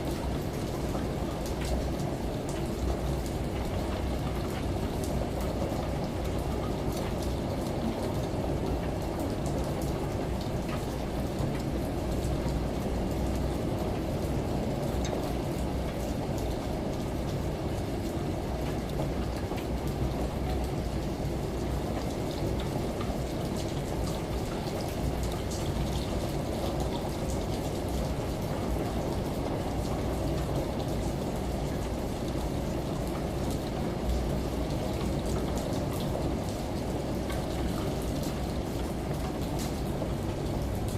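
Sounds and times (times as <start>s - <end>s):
steady rain: 0.0s - 40.9s
washing machine hum: 0.0s - 40.9s.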